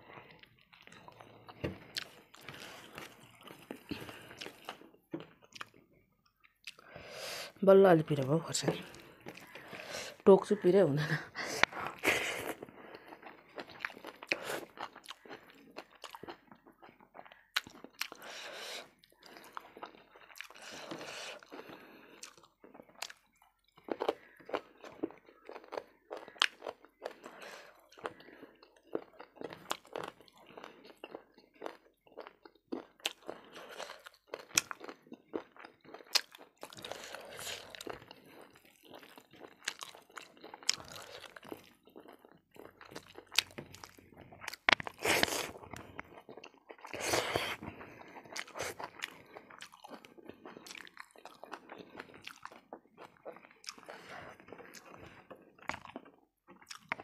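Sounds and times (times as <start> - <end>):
close chewing with mouth clicks: 0.1 - 7.6, 8.5 - 10.3, 11.4 - 57.0
food crunching: 0.2 - 7.0, 8.0 - 10.6, 11.4 - 57.0.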